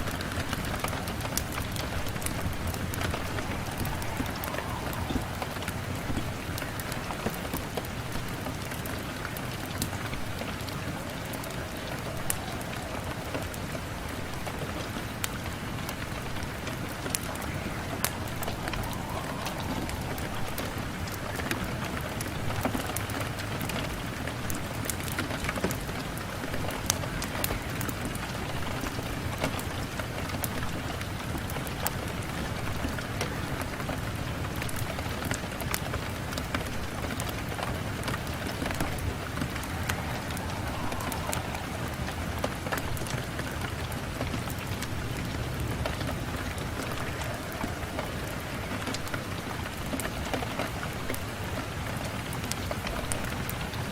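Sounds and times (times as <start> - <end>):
rain on a window pane: 0.0 - 53.9.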